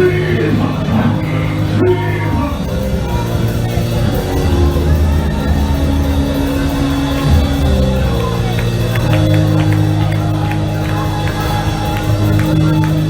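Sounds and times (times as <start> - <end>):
live band music with heavy bass: 0.0 - 13.0.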